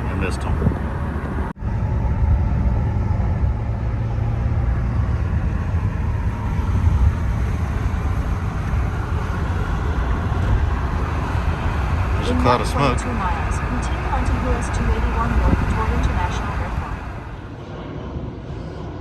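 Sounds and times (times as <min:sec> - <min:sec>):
road and engine rumble in car: 0:00.0 - 0:16.9.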